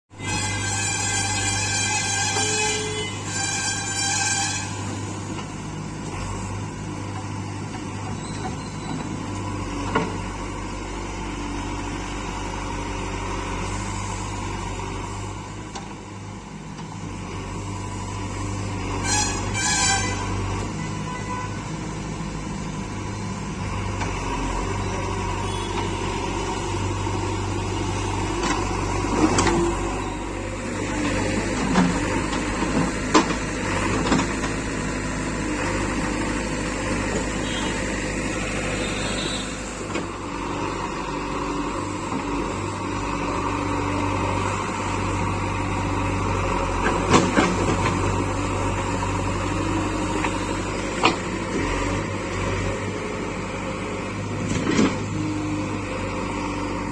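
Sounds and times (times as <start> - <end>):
diesel engine running: 0.3 - 56.9.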